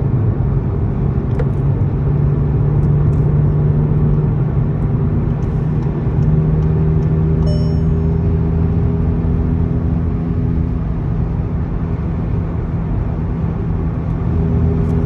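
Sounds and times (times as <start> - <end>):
road and tyre noise: 0.0 - 15.0
low exhaust drone: 2.0 - 15.0.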